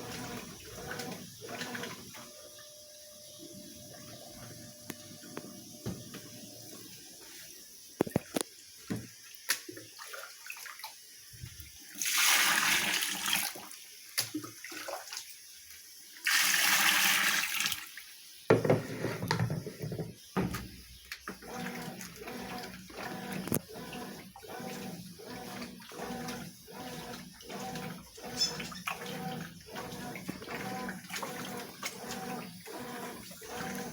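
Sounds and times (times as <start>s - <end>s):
washing machine water sloshing: 0.0s - 2.7s, 5.8s - 18.0s, 18.7s - 33.9s.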